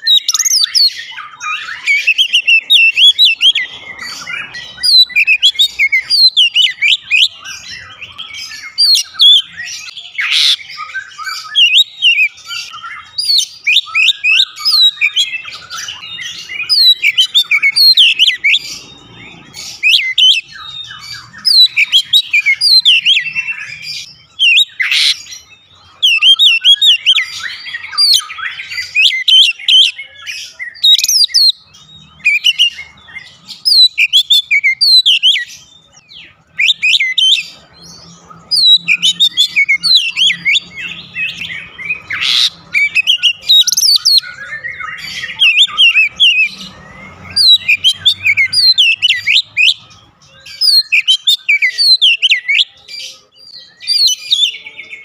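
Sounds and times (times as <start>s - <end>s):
bird singing whistled phrases: 0.0s - 55.0s.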